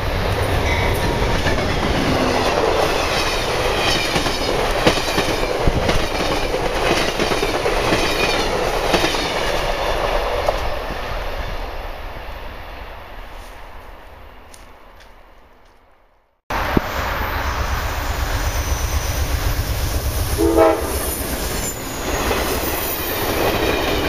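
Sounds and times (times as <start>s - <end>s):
train rushing rumble: 0.0s - 13.5s, 16.5s - 24.0s.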